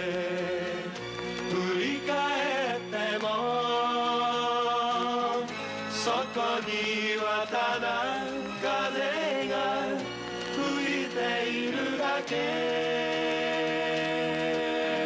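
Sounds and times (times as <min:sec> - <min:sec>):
slow song with held notes: 0:00.0 - 0:15.0.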